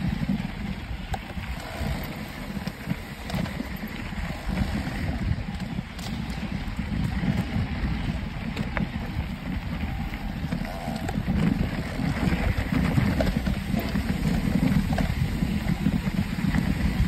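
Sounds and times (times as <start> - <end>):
bike clicks and rattles: 0.0 - 17.0
wind buffeting microphone: 0.0 - 17.0.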